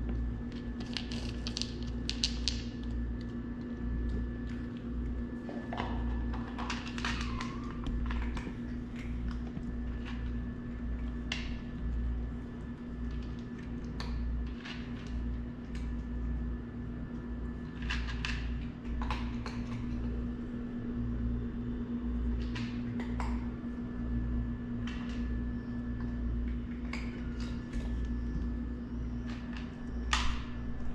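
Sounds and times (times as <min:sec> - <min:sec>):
low machine hum: 0:00.0 - 0:30.9.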